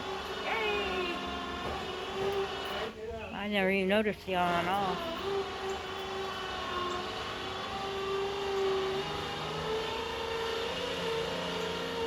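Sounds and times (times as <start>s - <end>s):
motor humming: 0.0s - 3.0s, 3.8s - 12.0s.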